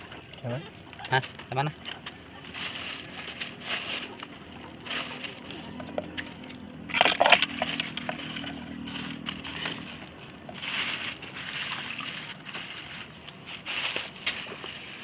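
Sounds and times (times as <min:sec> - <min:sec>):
plastic bag rustling: 0:01.0 - 0:15.0.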